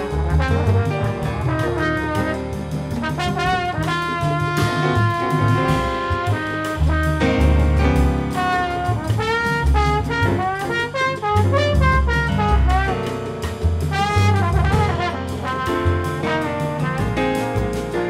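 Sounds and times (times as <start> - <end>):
double bass notes: 0.0 - 18.0
drum kit with cymbal strikes: 0.0 - 18.0
saxophones and trombone melody: 0.0 - 18.0.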